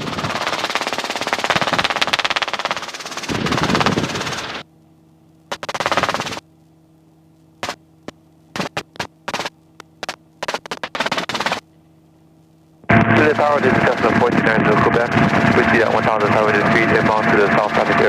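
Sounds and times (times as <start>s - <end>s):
helicopter rotor and engine: 0.0s - 4.7s, 5.4s - 6.5s, 7.5s - 11.9s, 12.8s - 18.0s
low hum: 0.0s - 18.0s.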